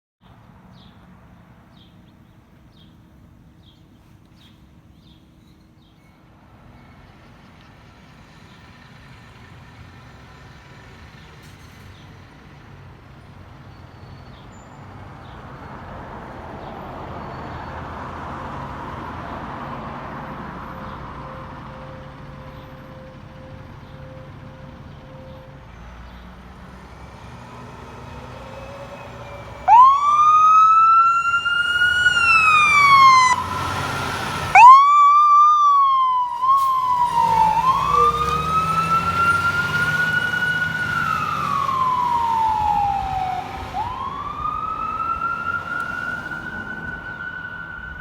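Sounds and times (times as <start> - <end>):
vehicle engine and tyre noise: 0.2 - 48.0.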